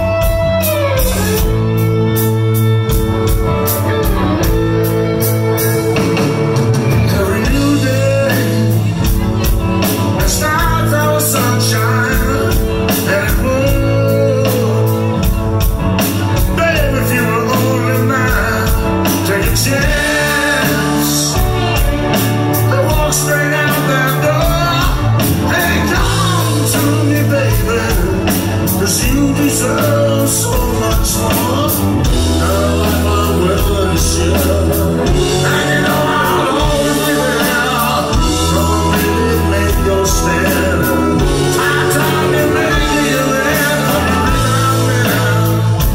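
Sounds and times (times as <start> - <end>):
person singing: 0.0 - 45.9
rock band playing: 0.0 - 45.9.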